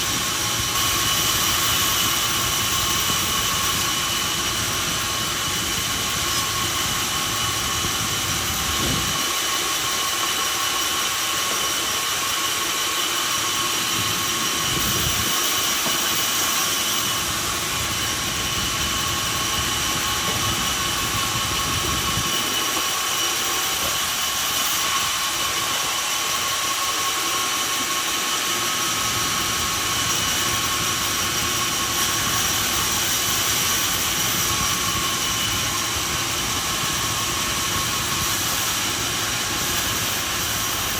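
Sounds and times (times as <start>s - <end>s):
sawmill machinery whining: 0.0s - 40.9s.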